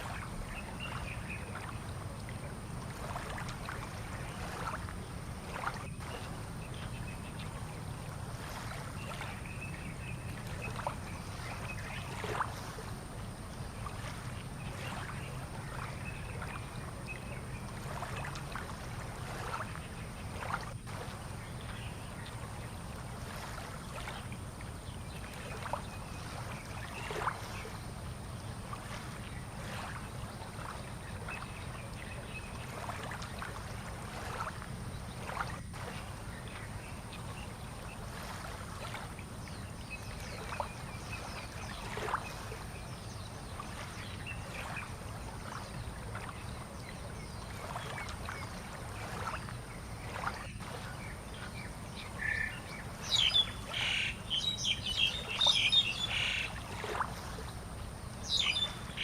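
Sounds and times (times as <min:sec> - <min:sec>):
water lapping and splashing: 0:00.0 - 0:59.0.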